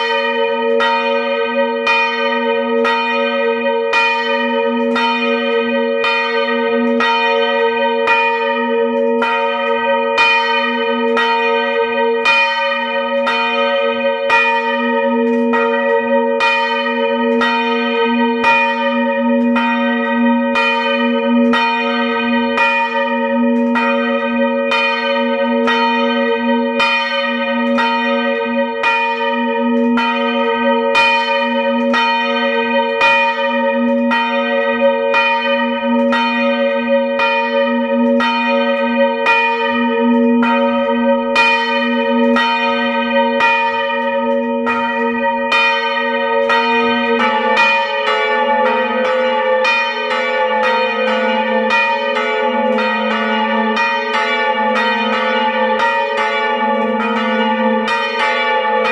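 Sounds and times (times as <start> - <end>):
church bells ringing: 0.0 - 58.9.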